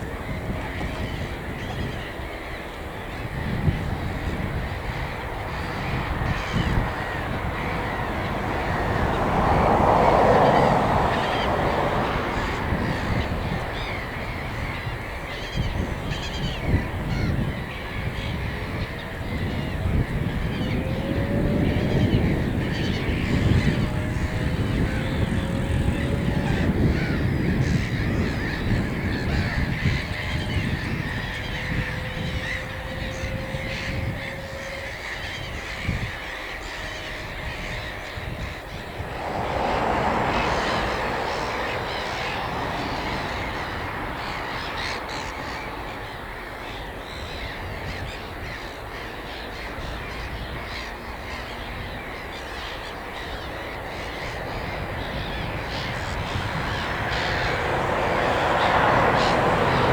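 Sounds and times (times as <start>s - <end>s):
birds cawing: 0.0s - 59.9s.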